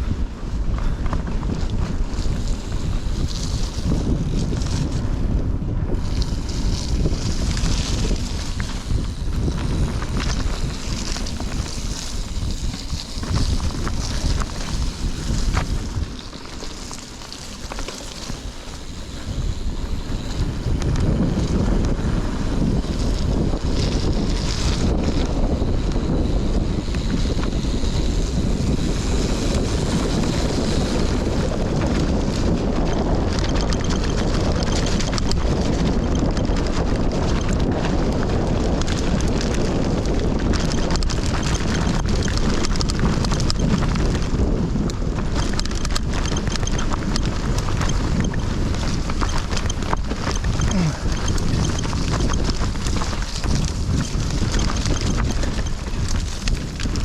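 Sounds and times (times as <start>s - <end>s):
bike rattling: 0.0s - 57.0s
wind rushing over microphone: 0.0s - 57.0s
tyres rolling on dirt: 1.0s - 57.0s.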